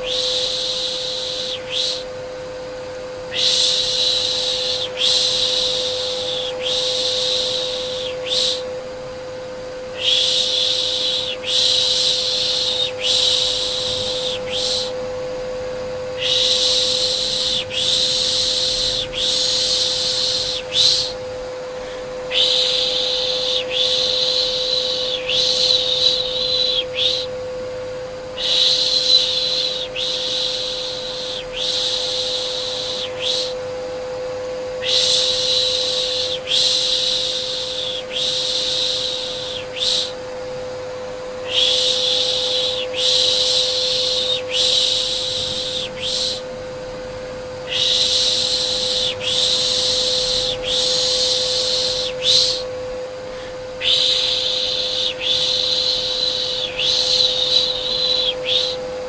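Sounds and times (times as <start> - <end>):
vacuum cleaner humming: 0.0 - 59.0.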